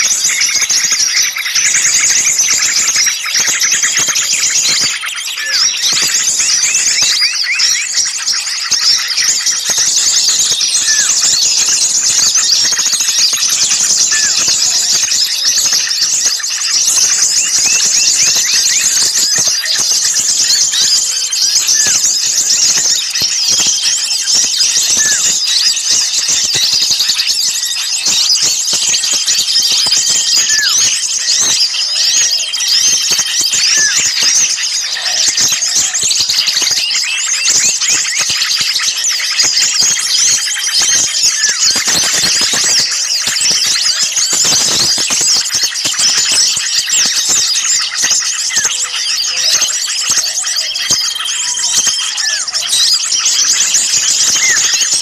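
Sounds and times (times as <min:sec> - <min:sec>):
songbirds chattering: 0:00.0 - 0:55.0.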